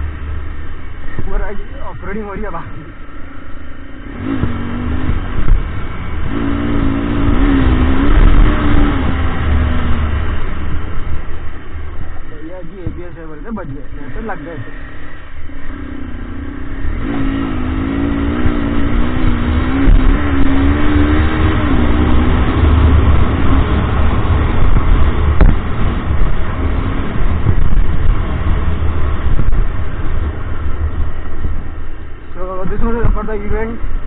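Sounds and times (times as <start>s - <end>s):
motorcycle engine running: 0.0s - 34.0s
wind rumble on microphone: 0.0s - 34.0s.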